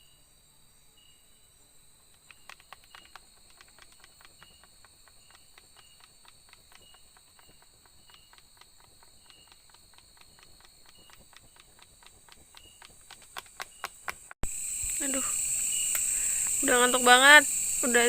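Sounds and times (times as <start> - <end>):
insect chirping: 0.0 - 18.0
insects buzzing: 0.0 - 18.0
sharp ticks and taps: 2.1 - 15.2, 15.9 - 18.0.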